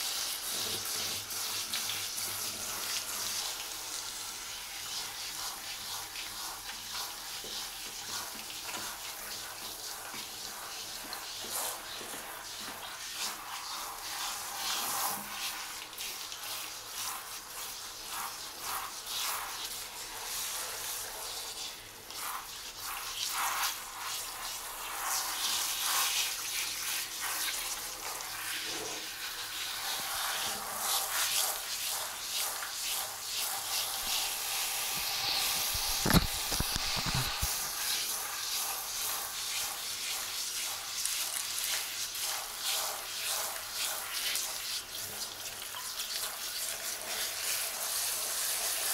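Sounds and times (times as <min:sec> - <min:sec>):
shower head spraying water: 0:00.0 - 0:44.8.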